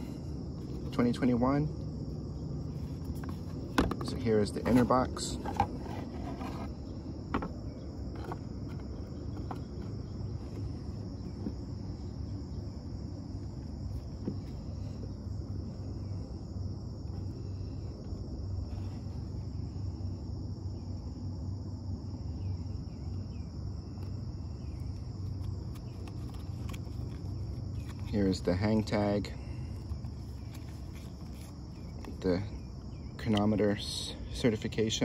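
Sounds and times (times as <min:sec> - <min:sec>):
low steady rumble: 0:00.0 - 0:34.8
insects chirping: 0:00.0 - 0:35.0.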